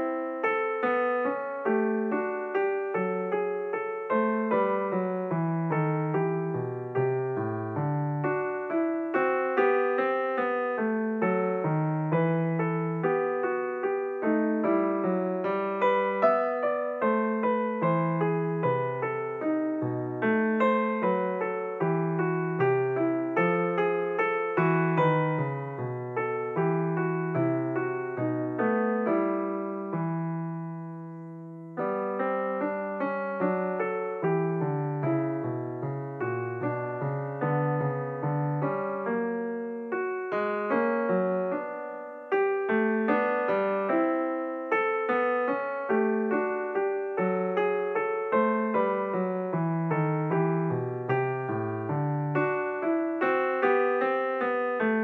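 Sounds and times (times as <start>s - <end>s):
solo piano playing: 0.0s - 55.0s.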